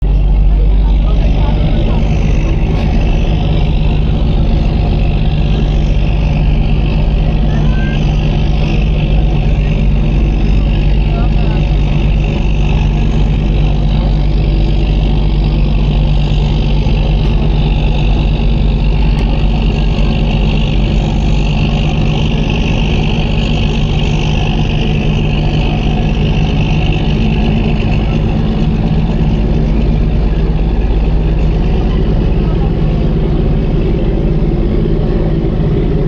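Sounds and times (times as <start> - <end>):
ferry engine hum: 0.0 - 36.0.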